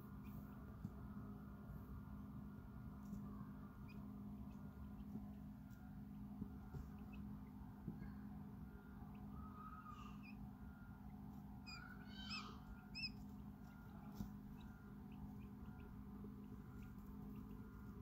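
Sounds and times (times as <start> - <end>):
quail chicks peeping: 0.0 - 0.7, 3.1 - 18.0
low hum: 0.0 - 18.0.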